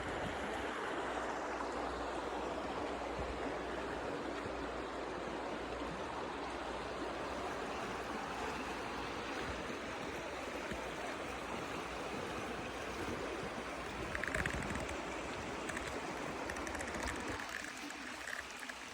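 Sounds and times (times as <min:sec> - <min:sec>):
stream water rushing: 0:00.0 - 0:18.9.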